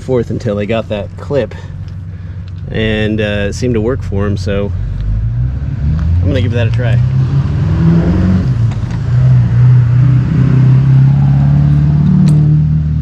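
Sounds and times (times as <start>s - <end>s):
engine running low hum: 0.0s - 13.0s.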